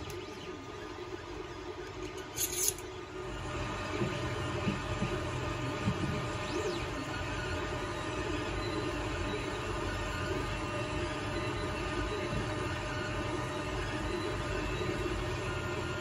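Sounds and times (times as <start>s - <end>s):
printer motors running: 0.0s - 16.0s.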